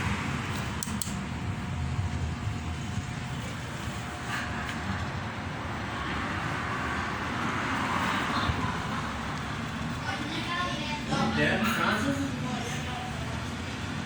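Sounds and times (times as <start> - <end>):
wall fan blowing air: 0.0 - 14.0.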